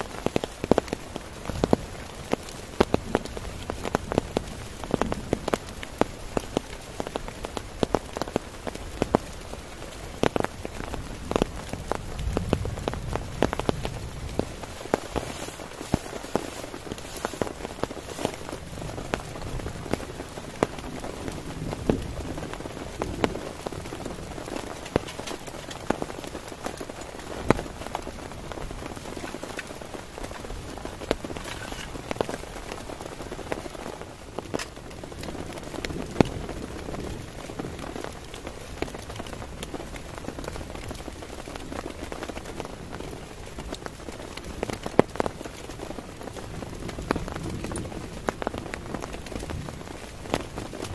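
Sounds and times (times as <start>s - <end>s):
heavy rain on a tent: 0.0s - 50.9s.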